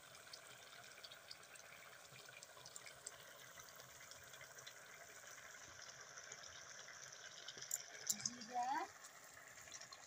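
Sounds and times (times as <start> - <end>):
curry bubbling in a wok: 0.0 - 10.0.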